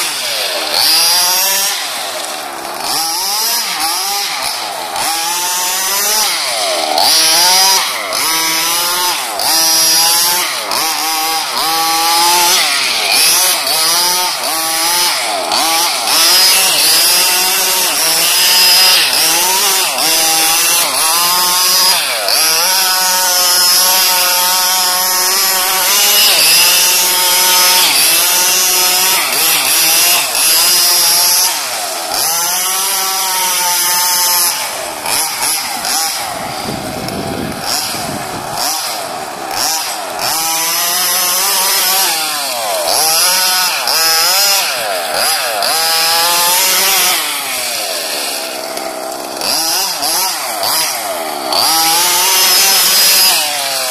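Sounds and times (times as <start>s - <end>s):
two-stroke engine revving: 0.0s - 53.9s.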